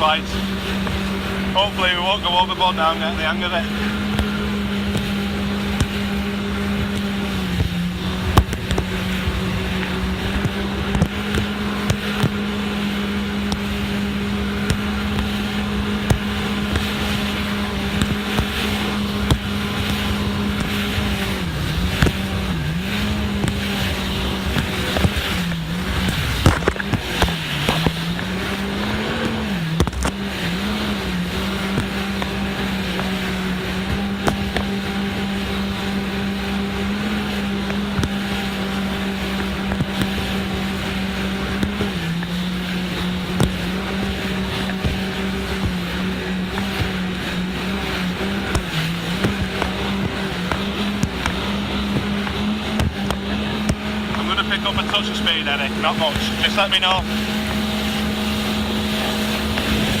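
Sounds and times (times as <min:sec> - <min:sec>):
jet ski engine running: 0:00.0 - 1:00.0.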